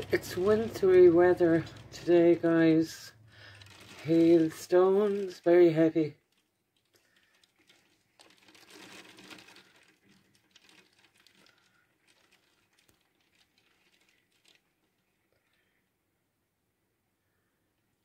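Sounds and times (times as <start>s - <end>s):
hail ticking on window: 0.0s - 15.7s.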